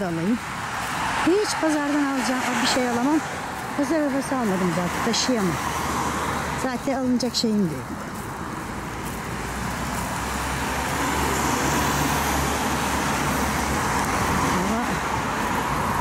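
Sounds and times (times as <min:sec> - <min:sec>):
cars driving by: 0:00.0 - 0:16.0.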